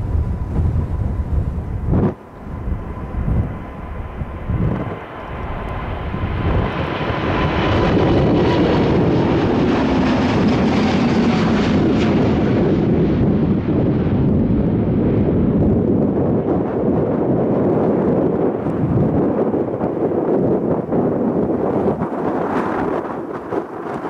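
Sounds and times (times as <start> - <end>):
jet airliner engines passing: 0.0 - 24.0
wind buffeting microphone: 0.0 - 24.0.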